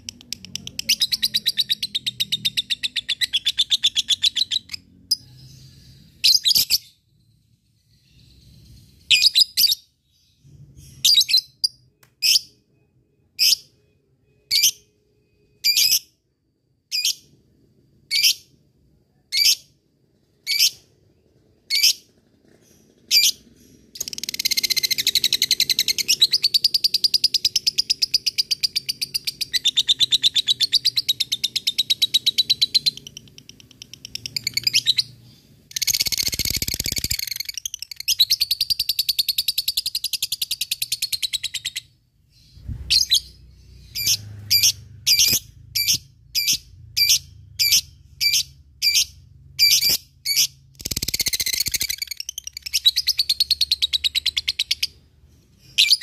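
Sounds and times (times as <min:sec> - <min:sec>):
lovebird chirping and chattering: 0:00.0 - 0:12.6, 0:13.4 - 0:16.2, 0:16.9 - 0:17.4, 0:18.1 - 0:18.6, 0:19.2 - 0:56.0.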